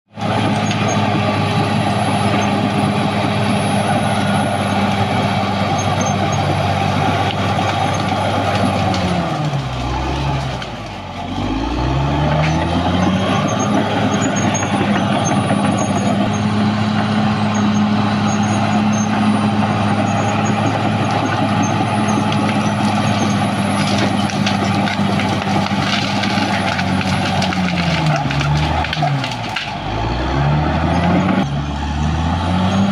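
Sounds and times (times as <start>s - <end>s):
bulldozer diesel engine running: 0.1s - 32.9s.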